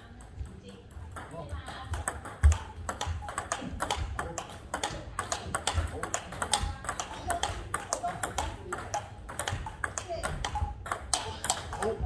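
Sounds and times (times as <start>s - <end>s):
table tennis balls clicking: 0.0s - 12.0s.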